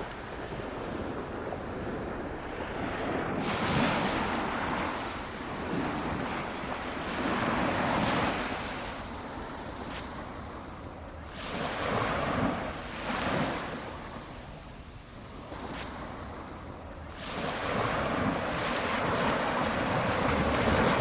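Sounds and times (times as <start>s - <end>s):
gentle waves washing up beach: 0.0s - 21.0s.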